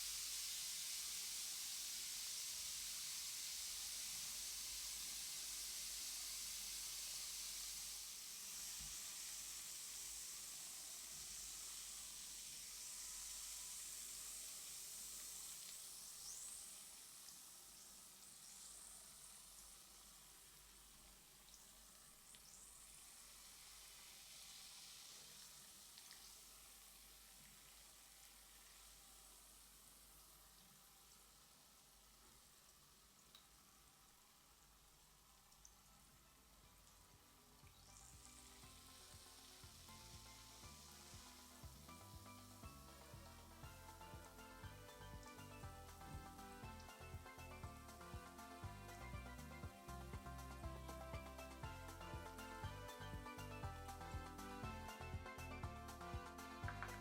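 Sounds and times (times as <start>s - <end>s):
bath bomb fizzing in water: 0.0s - 35.8s, 36.5s - 49.5s.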